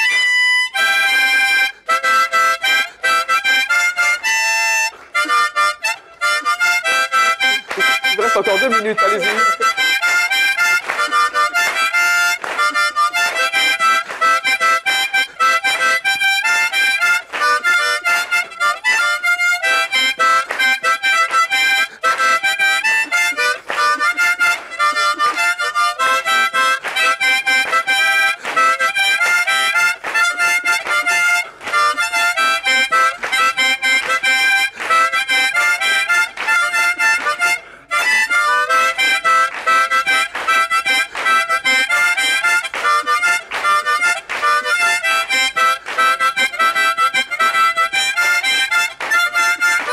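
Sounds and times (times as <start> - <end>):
harmonica melody: 0.0 - 49.9.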